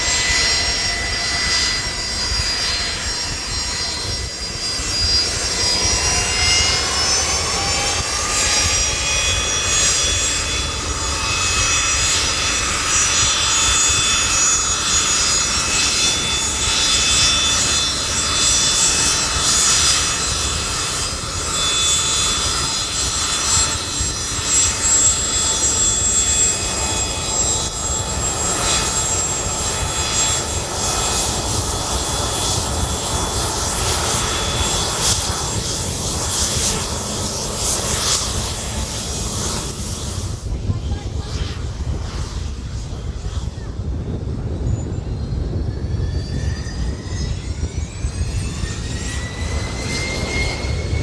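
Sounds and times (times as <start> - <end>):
turbine aircraft engines whining: 0.0 - 51.0.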